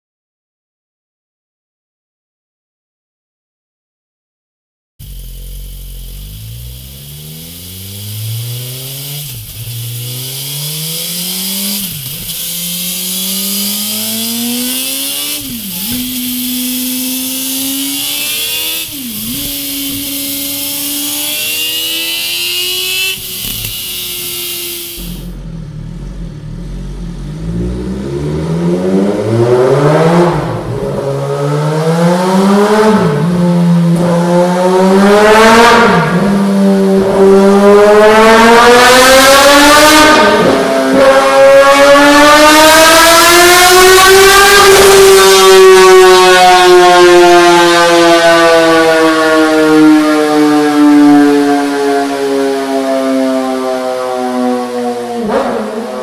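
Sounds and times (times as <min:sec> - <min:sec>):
motorcycle accelerating through gears: 0:05.0 - 0:56.0.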